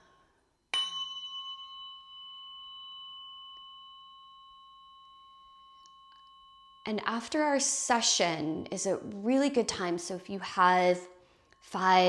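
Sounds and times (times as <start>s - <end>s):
tuning fork ringing: 0.0s - 10.0s.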